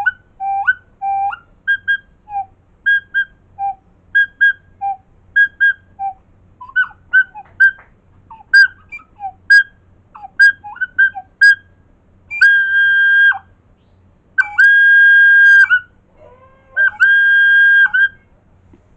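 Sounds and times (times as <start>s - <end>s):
recorder head joint toots and whistles: 0.0s - 15.9s, 16.7s - 18.3s.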